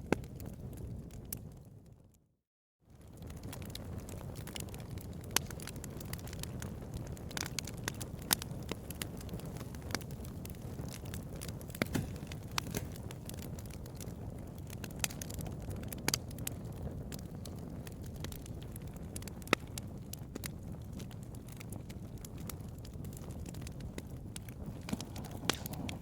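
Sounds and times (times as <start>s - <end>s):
fire crackling and popping: 0.0s - 2.2s, 2.9s - 26.0s
low rush of burning fire: 2.9s - 26.0s.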